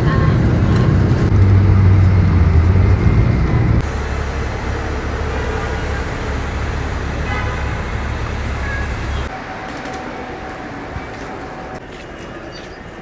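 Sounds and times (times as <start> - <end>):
bus engine idling: 0.0 - 13.0
outdoor hubbub: 0.0 - 13.0.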